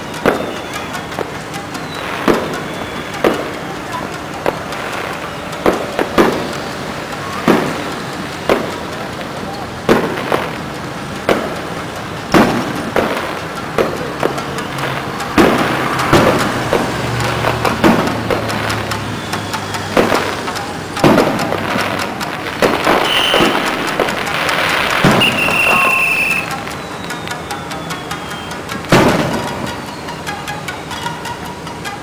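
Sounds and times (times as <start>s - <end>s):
firework shell bursts: 0.0s - 32.0s
fireworks crackling: 0.0s - 32.0s.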